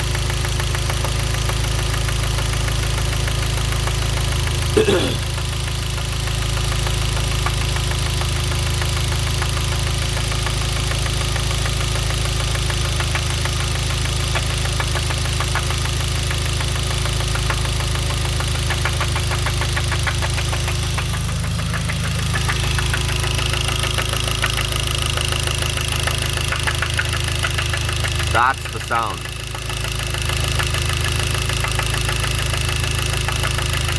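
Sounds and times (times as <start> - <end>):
car engine knocking: 0.1 - 33.9.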